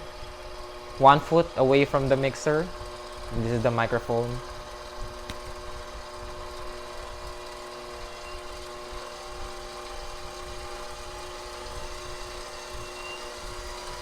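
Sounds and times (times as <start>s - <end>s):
stand mixer motor humming: 0.0s - 3.6s, 4.4s - 14.0s
faint motor whine: 0.0s - 14.0s.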